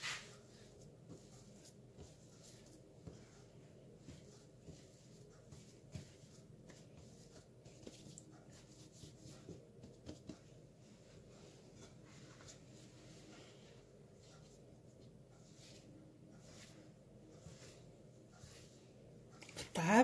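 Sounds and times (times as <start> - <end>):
hands kneading dough: 0.0 - 20.0.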